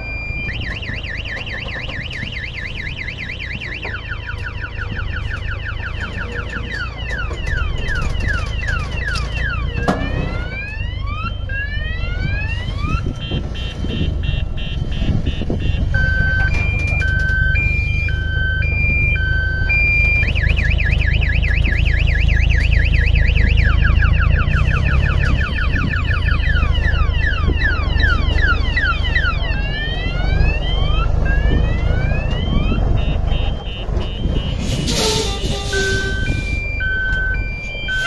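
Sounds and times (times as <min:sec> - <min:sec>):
diesel engine rumble: 0:00.0 - 0:38.0
electronic reversing siren: 0:00.0 - 0:38.0.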